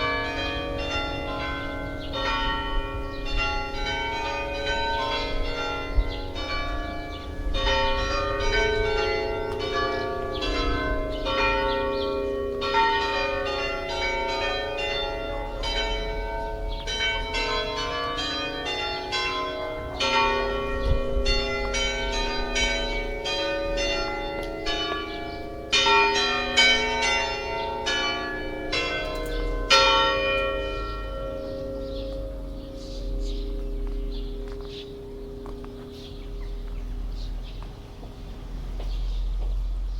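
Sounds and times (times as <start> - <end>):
church bells ringing a peal: 0.0 - 39.6.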